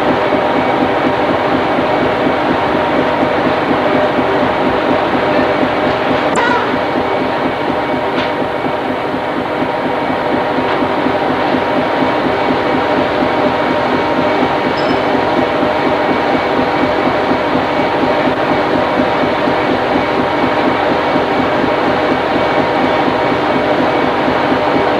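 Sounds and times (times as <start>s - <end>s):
ship machinery drone: 0.0s - 24.9s
steady humming tones: 0.0s - 24.9s.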